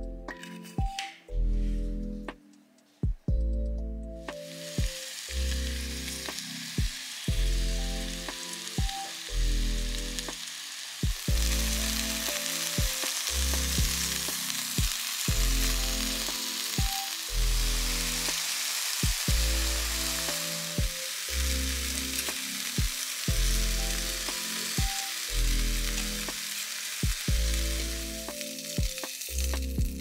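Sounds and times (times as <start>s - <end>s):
background music with beat: 0.0s - 30.0s
vegetables sizzling in oil: 4.3s - 30.0s.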